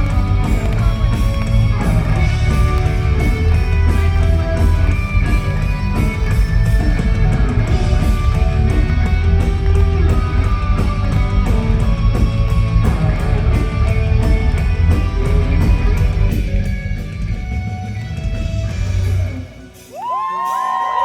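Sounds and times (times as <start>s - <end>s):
heavy metal band playing live: 0.0s - 20.8s
drum and cymbal hits: 0.0s - 21.0s
electric guitars: 0.0s - 21.0s.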